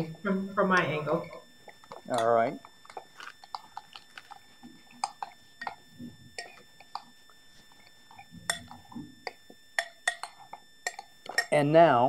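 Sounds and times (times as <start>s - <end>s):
fork stirring wet mixture: 1.2s - 5.8s, 6.4s - 11.6s.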